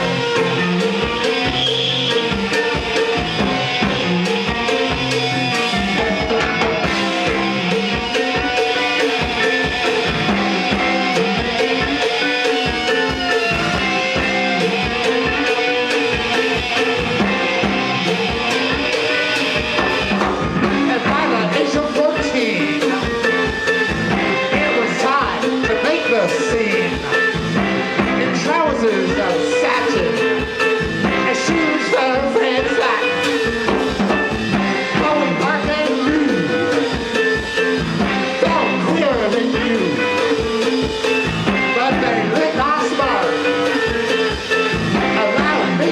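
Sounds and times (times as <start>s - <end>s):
drum beat: 0.0s - 45.9s
rock band playing: 0.0s - 45.9s
sliding electric guitar lines: 0.0s - 45.9s.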